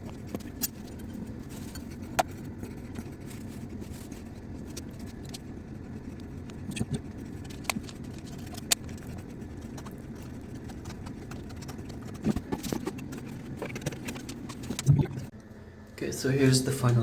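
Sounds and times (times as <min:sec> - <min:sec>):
low hum: 0:00.0 - 0:16.7.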